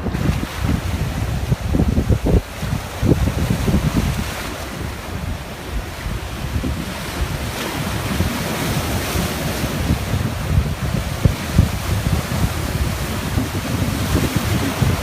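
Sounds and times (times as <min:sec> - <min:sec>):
sea waves breaking on shore: 0:00.0 - 0:15.0
wind buffeting microphone: 0:00.0 - 0:15.0.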